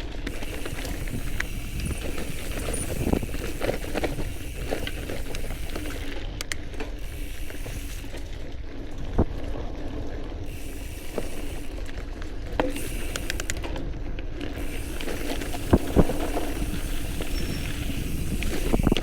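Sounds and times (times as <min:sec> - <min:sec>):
bike clicks and rattles: 0:00.0 - 0:19.0
bike tyres rolling over dirt: 0:00.0 - 0:19.0.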